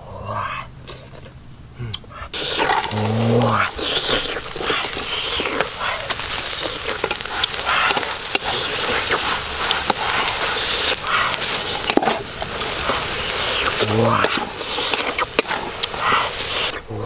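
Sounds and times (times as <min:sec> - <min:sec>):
grasshoppers rustling in metal pot: 0:02.4 - 0:16.8.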